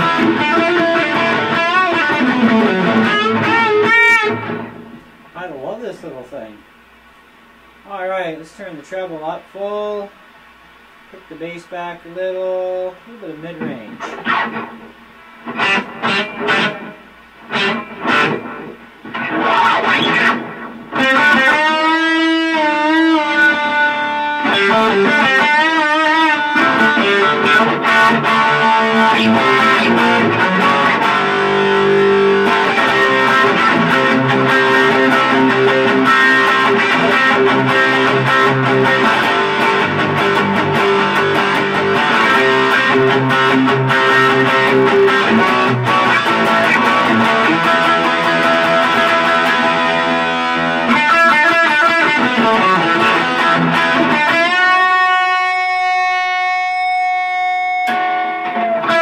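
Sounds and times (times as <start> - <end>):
electric guitar riffing: 0.0 - 6.6, 10.8 - 59.0.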